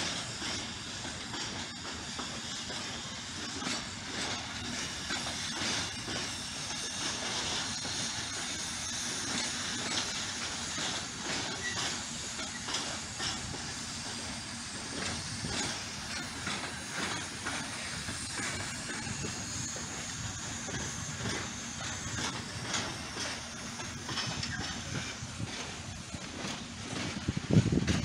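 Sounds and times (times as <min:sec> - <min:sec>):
steel wheels rolling on rail: 0:00.0 - 0:28.0
wheels clacking over rail joints: 0:00.0 - 0:28.0.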